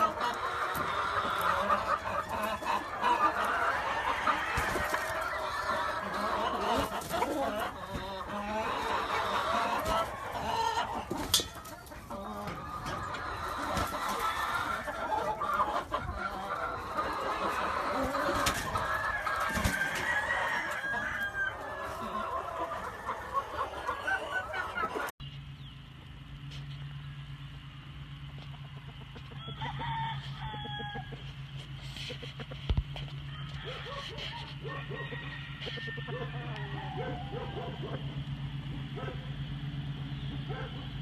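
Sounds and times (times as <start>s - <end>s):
roosters crowing: 0.0s - 25.1s, 27.1s - 41.0s
chickens clucking: 0.0s - 41.0s
low steady hum: 0.0s - 41.0s.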